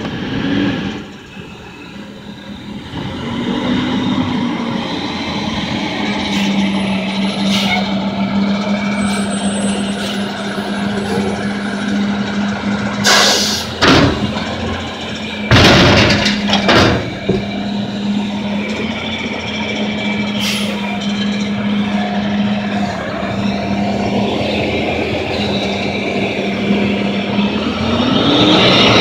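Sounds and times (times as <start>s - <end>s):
garbage truck engine and hydraulics: 0.0s - 29.0s.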